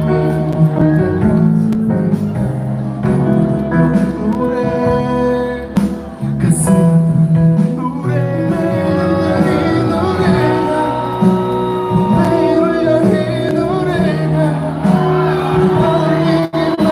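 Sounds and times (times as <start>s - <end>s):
live pop ballad: 0.0s - 16.9s
person singing: 3.0s - 16.9s.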